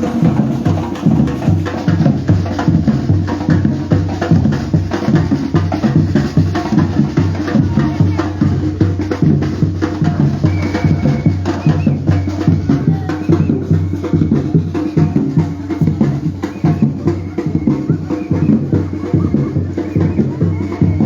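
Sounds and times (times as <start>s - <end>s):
percussion group playing: 0.0s - 21.0s.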